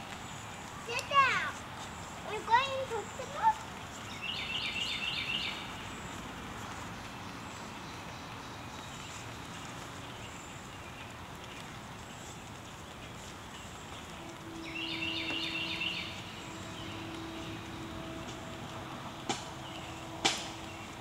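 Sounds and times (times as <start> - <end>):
bird chirping: 2.3 - 21.0.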